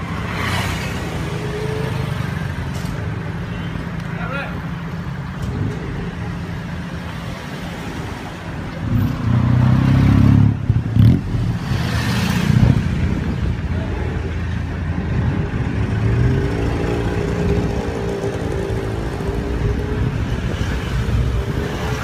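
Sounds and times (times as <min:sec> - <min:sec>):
street traffic engines: 0:00.0 - 0:22.0.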